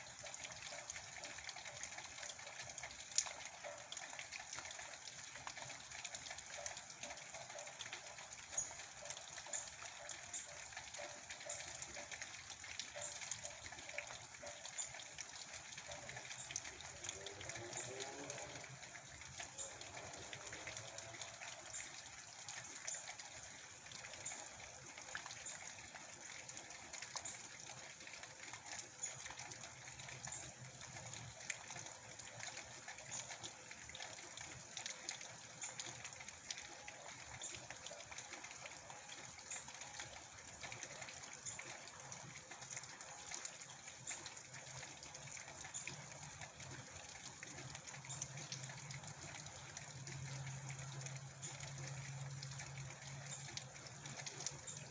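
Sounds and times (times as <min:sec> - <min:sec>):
drops ticking: 0:00.0 - 0:54.9
steady rain: 0:00.0 - 0:54.9
water running: 0:07.0 - 0:25.0, 0:25.7 - 0:54.9.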